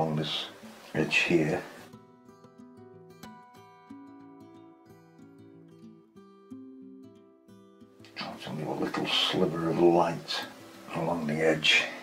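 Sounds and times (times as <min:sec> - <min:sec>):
plucked acoustic guitar music: 0:00.0 - 0:11.2.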